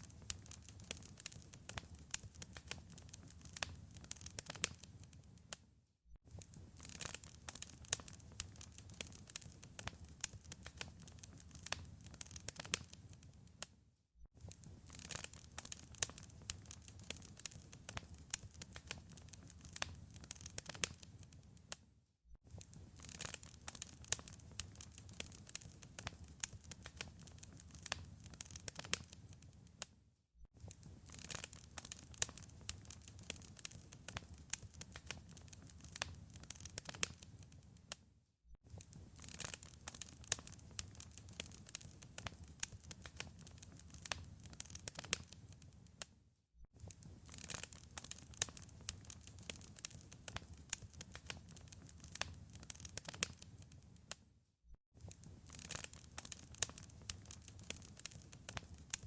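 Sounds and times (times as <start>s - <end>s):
wood fire crackling: 0.0s - 5.6s, 6.3s - 13.4s, 14.4s - 21.8s, 22.5s - 29.8s, 30.6s - 38.0s, 38.7s - 45.9s, 46.8s - 54.2s, 55.0s - 59.0s.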